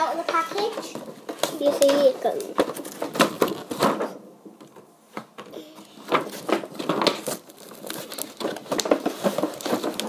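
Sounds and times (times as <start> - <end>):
packaging crinkling and rustling: 0.0 - 4.8, 5.8 - 10.0.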